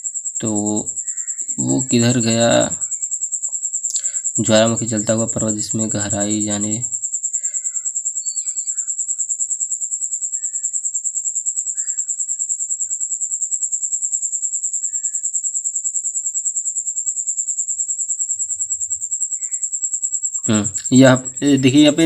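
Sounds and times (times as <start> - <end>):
cricket chirping trill: 0.0 - 22.0.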